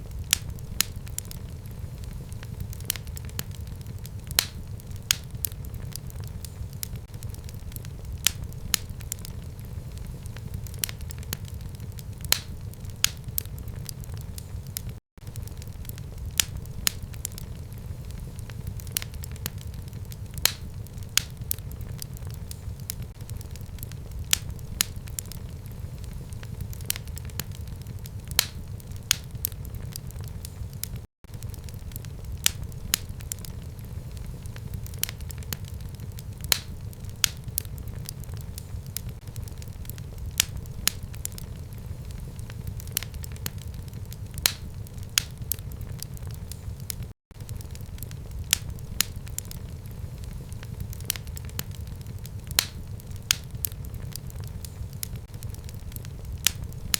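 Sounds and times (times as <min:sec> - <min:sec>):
fire crackling in fireplace: 0:00.0 - 0:56.9.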